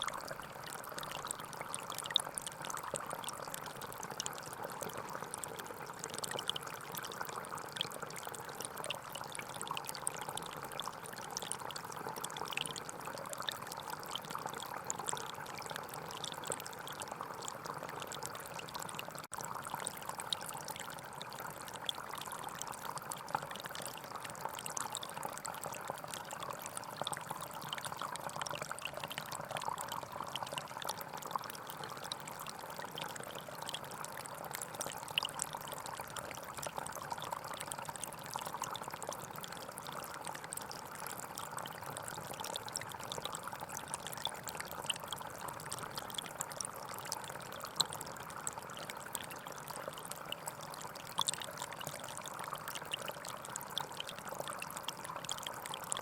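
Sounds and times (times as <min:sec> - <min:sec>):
stream trickling over stones: 0:00.0 - 0:56.0.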